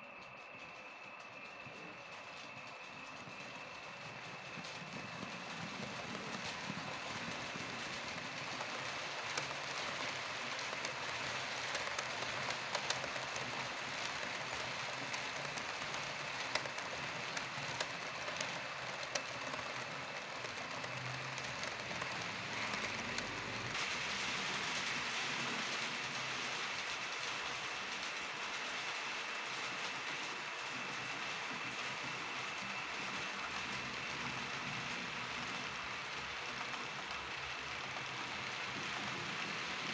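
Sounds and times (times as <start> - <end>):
hiss of model train wheels: 0.7 - 39.9.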